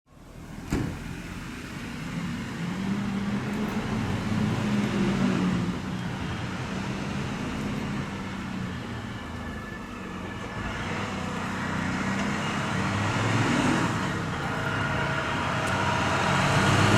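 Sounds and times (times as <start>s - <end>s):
vehicle engine humming: 0.1s - 16.9s.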